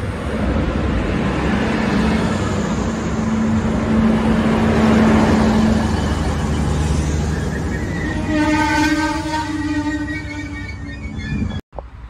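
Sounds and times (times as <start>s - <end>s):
diesel railcar engine running: 0.0s - 12.0s.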